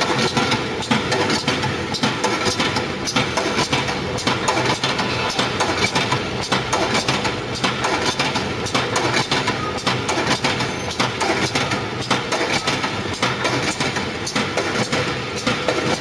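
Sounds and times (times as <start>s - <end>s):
fence weaving machine clattering: 0.0s - 16.0s.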